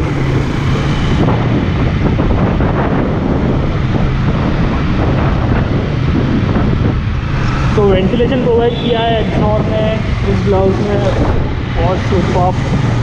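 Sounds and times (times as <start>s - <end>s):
motorcycle engine hum: 0.0s - 13.0s
wind buffeting microphone: 0.0s - 13.0s.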